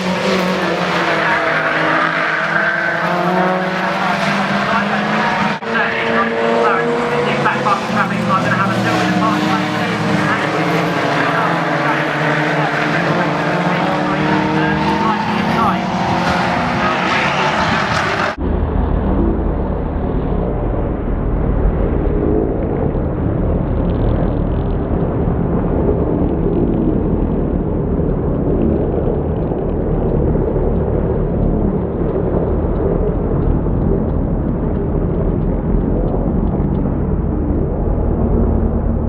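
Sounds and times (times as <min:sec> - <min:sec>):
muffled race car engine rumble: 0:00.0 - 0:39.0.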